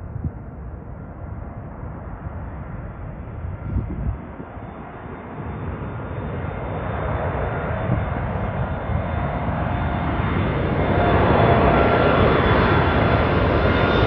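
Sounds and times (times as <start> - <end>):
jet engines rumbling: 0.2 - 14.0.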